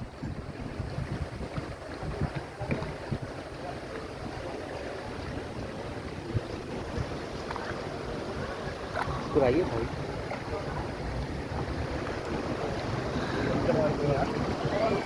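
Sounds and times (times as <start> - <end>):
river water rushing: 0.0 - 15.0
wind buffeting microphone: 0.0 - 15.0.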